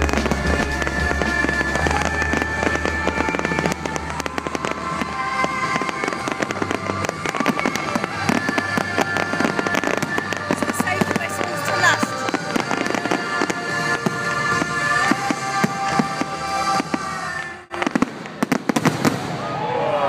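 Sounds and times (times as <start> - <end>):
music: 0.0 - 18.0
fireworks crackling and popping: 0.0 - 19.5.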